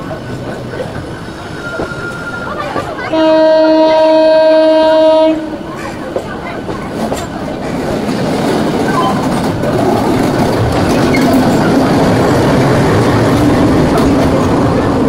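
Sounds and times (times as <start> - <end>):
locomotive passing rumble: 0.0 - 15.0
train wheels clattering on rails: 0.0 - 15.0.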